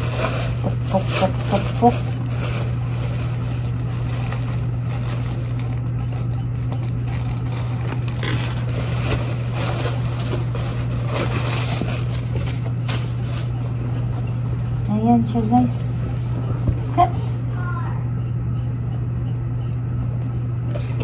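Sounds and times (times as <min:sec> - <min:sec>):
scraping and rustling of items: 0:00.0 - 0:21.0
steady low hum: 0:00.0 - 0:21.0.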